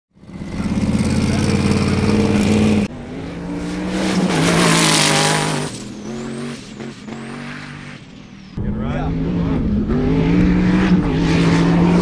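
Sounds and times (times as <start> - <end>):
engine at full throttle: 0.1 - 8.0, 8.6 - 12.0.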